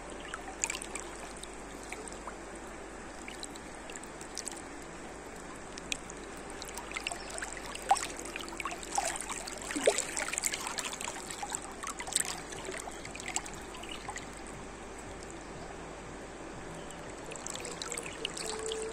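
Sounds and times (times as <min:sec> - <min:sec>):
small water splashes: 0:00.0 - 0:15.4, 0:16.7 - 0:18.9
river water lapping and gurgling: 0:00.0 - 0:18.9.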